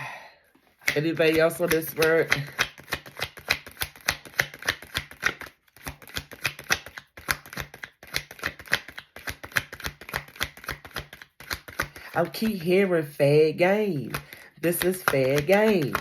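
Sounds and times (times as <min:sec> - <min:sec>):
cards being shuffled: 0:00.6 - 0:12.8, 0:14.0 - 0:16.0.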